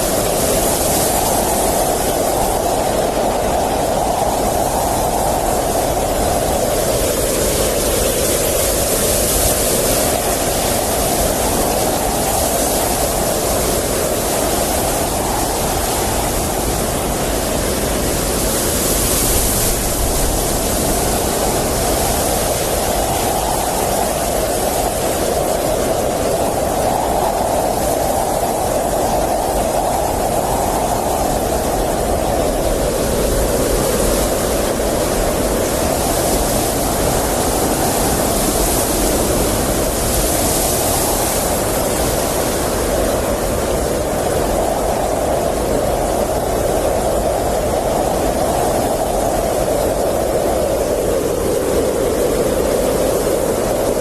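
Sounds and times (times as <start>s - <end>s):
blizzard wind howling: 0.0s - 54.0s
hissing wind gusts: 0.0s - 54.0s.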